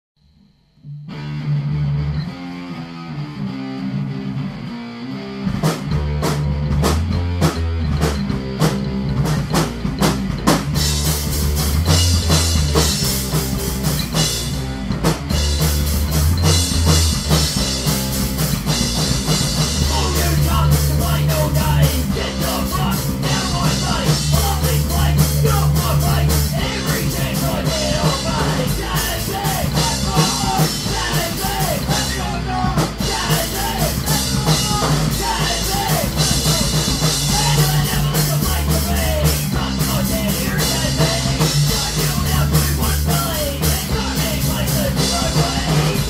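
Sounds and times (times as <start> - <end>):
punk rock band playing: 1.1 - 46.0
drum hits: 5.6 - 46.0.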